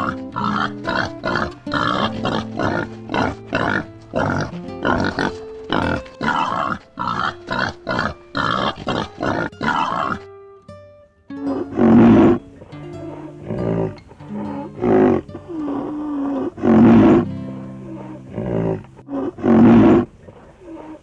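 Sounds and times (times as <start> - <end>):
boars grunting: 0.0 - 10.3, 13.0 - 17.2, 17.8 - 21.0
low animal call: 0.0 - 10.3, 11.5 - 17.2, 17.8 - 21.0
background music: 0.0 - 19.8.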